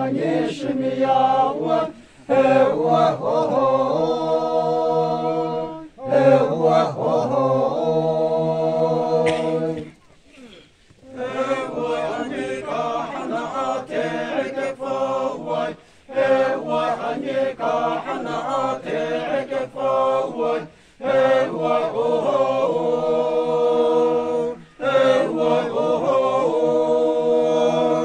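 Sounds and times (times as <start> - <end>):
men singing a chant: 0.0 - 10.0, 11.0 - 28.0.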